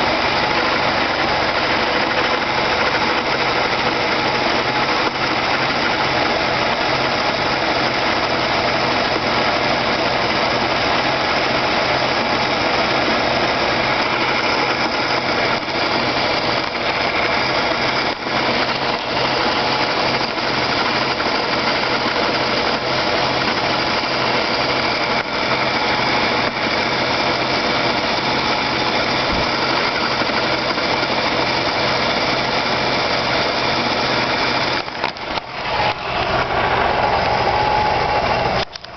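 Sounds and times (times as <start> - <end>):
vehicle transmission whirring and rattling: 0.0 - 38.9.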